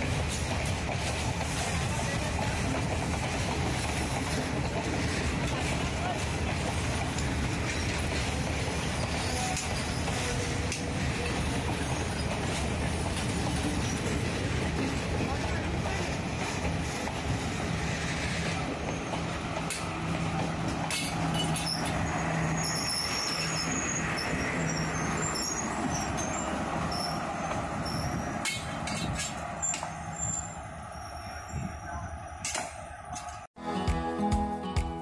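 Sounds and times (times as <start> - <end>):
train engine running: 0.0 - 33.5.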